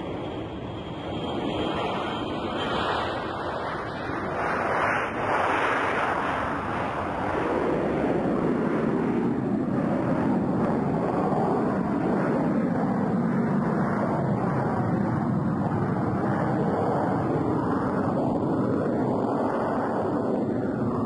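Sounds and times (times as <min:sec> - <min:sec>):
jet engines rushing: 0:00.0 - 0:21.0.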